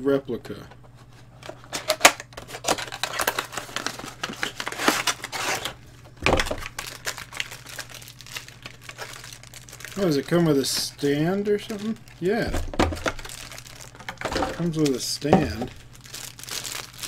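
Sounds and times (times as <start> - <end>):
packaging crinkling and rustling: 1.0 - 17.0.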